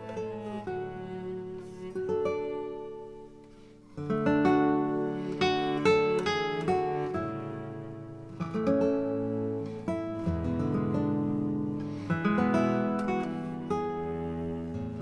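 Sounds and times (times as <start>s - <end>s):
acoustic guitar: 0.0s - 15.0s.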